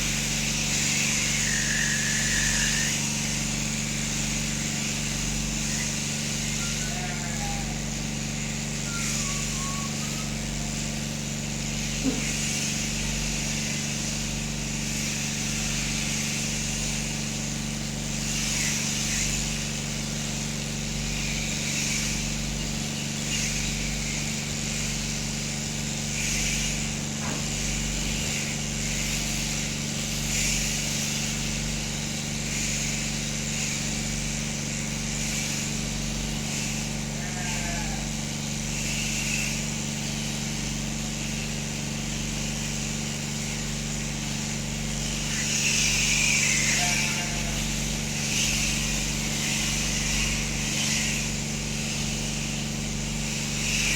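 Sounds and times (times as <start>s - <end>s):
electric clippers running: 0.0s - 53.9s.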